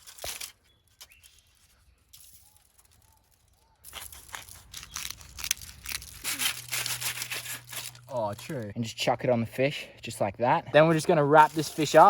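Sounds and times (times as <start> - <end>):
packet crinkling and rustling: 0.0 - 8.8, 10.9 - 12.0.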